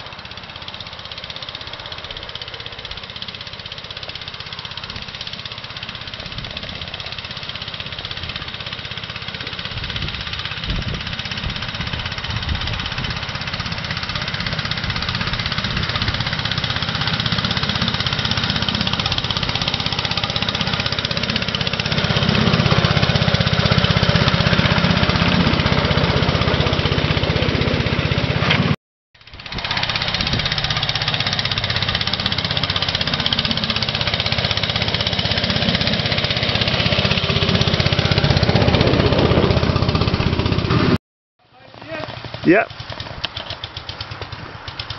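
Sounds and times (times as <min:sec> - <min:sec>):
miniature locomotive engine running: 0:00.0 - 0:28.5, 0:29.2 - 0:40.9, 0:41.7 - 0:44.9.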